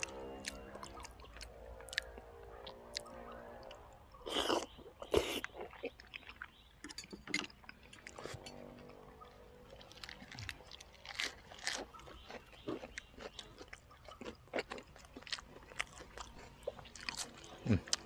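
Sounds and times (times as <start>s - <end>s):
person chewing food: 0.0s - 9.0s, 9.6s - 18.0s.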